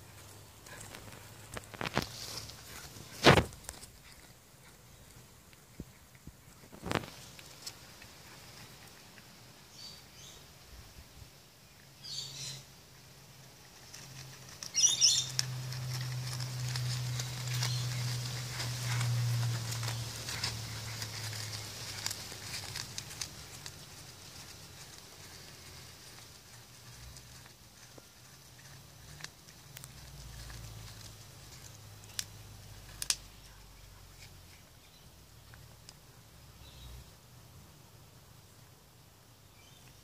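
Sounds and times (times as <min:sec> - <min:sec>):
cat chewing leaf: 0:00.0 - 0:09.6, 0:12.8 - 0:36.0.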